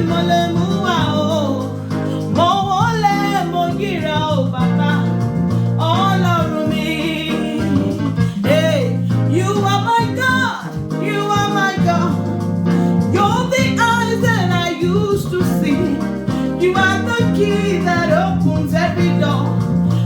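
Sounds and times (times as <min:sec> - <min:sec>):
band with guitar: 0:00.0 - 0:20.0
person singing: 0:00.0 - 0:20.0.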